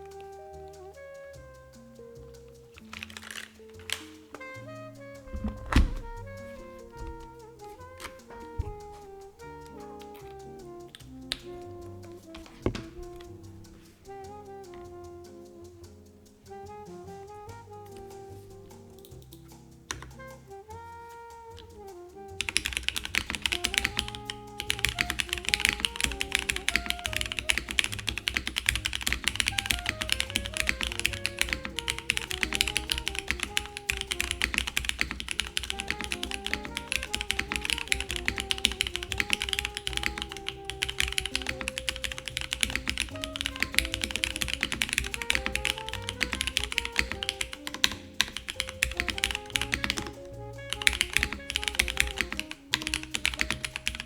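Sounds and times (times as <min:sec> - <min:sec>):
mechanical keyboard typing: 0:00.0 - 0:15.7, 0:21.6 - 0:54.0
soft background music: 0:00.0 - 0:54.0.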